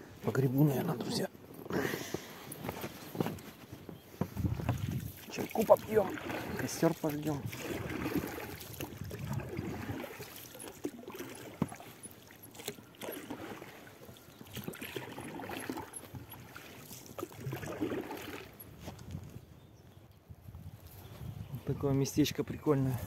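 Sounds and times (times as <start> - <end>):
oars swishing through water: 0.0 - 19.4.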